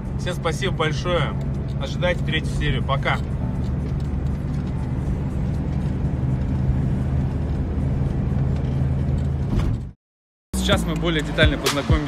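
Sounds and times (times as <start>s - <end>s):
car engine drone: 0.0s - 10.0s, 10.6s - 12.0s
road noise inside car: 0.0s - 10.0s, 10.6s - 12.0s.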